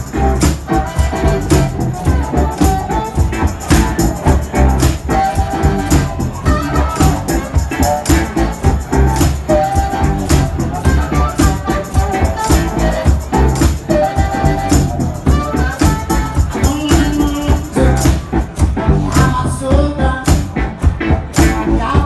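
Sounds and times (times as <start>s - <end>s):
harmonica: 0.0s - 18.0s
rattling percussion: 0.0s - 19.4s
drum beat: 0.0s - 22.0s
live blues-rock band: 0.0s - 22.0s.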